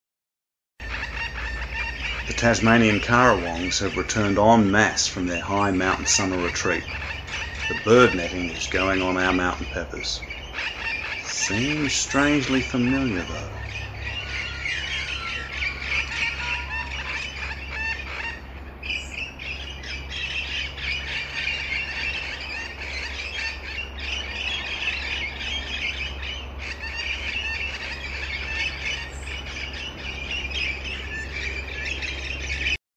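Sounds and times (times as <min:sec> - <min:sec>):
flock of birds calling: 0:00.8 - 0:32.8
steady low hum: 0:00.8 - 0:32.8.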